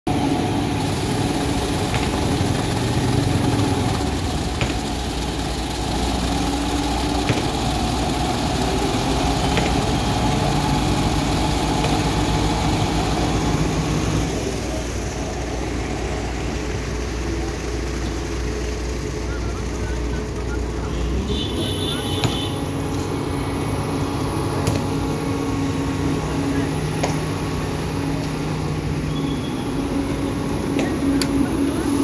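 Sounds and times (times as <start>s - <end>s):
excavator diesel engine running: 0.1s - 32.0s.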